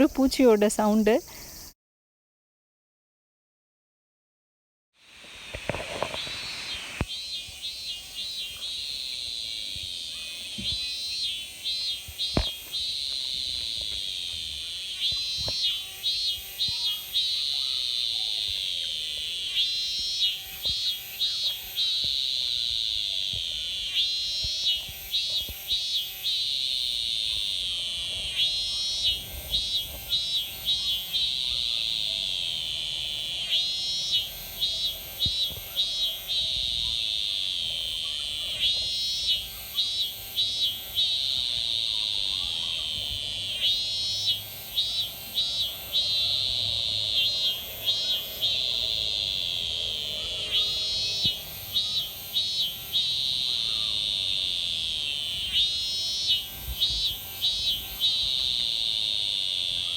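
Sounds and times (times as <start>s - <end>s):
cicadas buzzing: 0.0s - 1.8s, 5.0s - 59.9s
pulsed cicada call: 0.0s - 1.8s, 5.0s - 59.9s.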